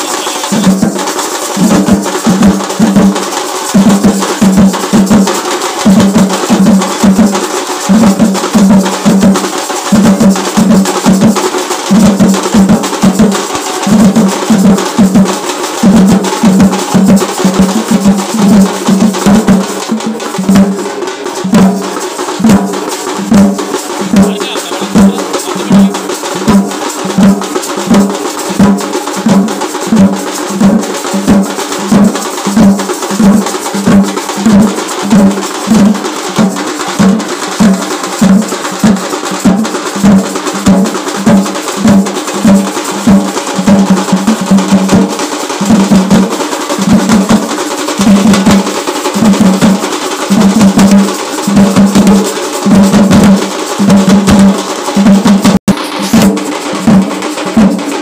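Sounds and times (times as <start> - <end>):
drummers beating large drums: 0.0 - 58.0.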